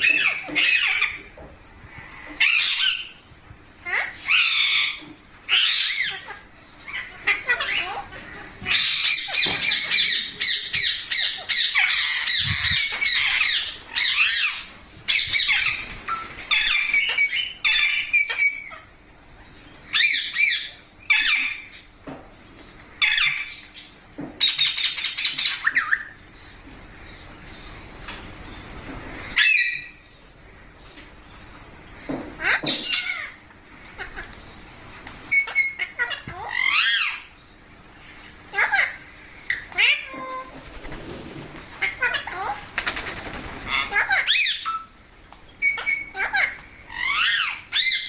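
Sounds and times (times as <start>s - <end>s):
parakeets squawking: 0.0s - 3.2s, 3.8s - 18.9s, 19.8s - 21.9s, 22.9s - 26.2s, 29.2s - 30.1s, 32.0s - 37.4s, 38.4s - 45.0s, 45.6s - 48.0s.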